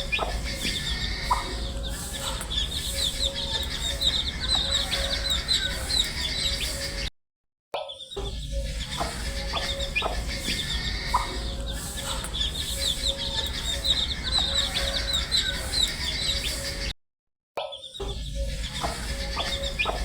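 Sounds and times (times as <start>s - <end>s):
baby chicks peeping: 0.0s - 7.1s, 8.4s - 16.9s, 18.4s - 20.0s.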